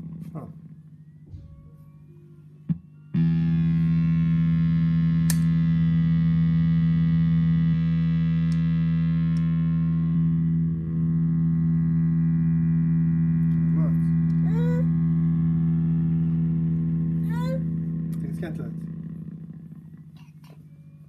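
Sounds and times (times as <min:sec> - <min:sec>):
distorted guitar drone: 0:00.0 - 0:01.9, 0:02.6 - 0:21.0.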